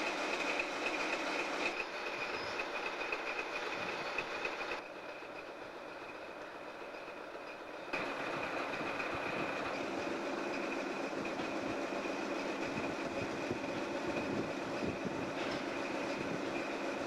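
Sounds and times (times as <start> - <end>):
locomotive engine and rolling wheels: 0.0 - 17.0.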